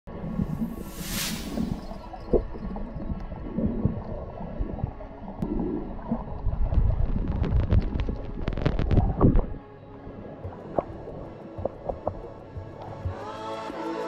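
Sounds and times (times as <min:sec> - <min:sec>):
underwater gurgling sloshes: 0:00.1 - 0:13.1.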